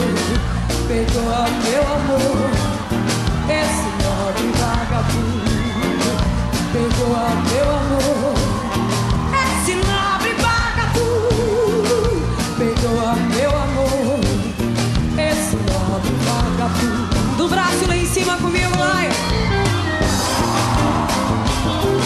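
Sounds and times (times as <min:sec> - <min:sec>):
woman singing: 0:00.0 - 0:19.6
live band music: 0:00.0 - 0:22.0
steady drum beat: 0:00.0 - 0:22.0.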